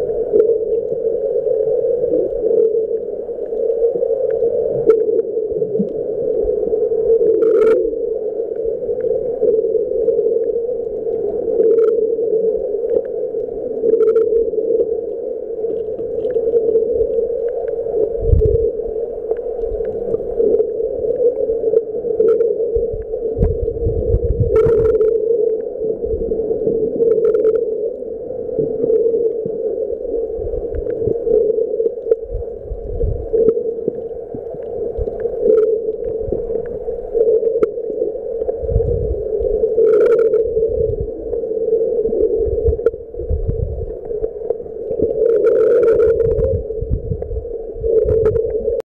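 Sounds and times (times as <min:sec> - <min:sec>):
muffled underwater drone: 0:00.0 - 0:48.8.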